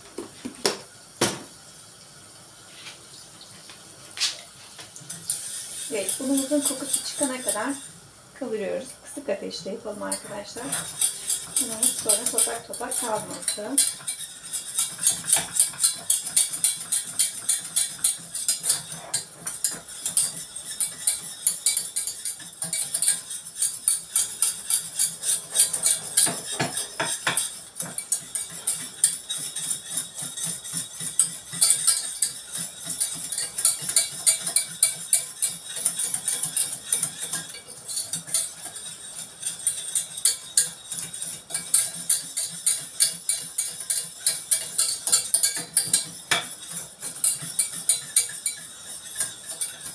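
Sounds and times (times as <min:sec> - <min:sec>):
metal utensil scraping saucepan: 0:05.1 - 0:49.9.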